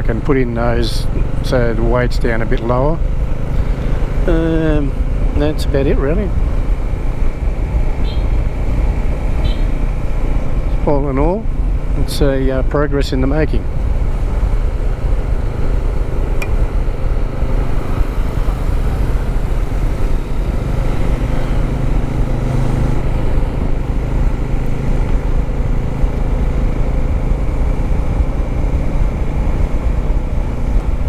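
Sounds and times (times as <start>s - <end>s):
motorcycle engine cruising: 0.0s - 31.0s
wind rumble on microphone: 0.0s - 31.0s.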